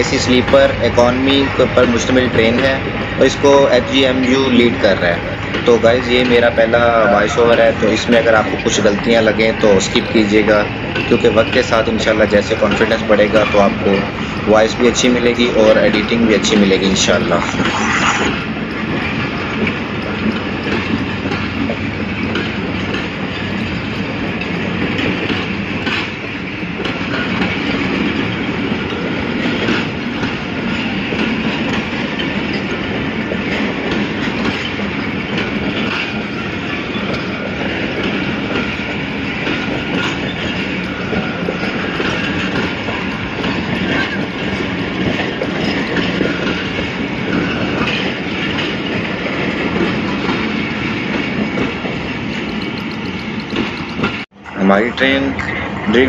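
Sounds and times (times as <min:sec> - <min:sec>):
train wheels clicking over rail joints: 0:00.0 - 0:54.3.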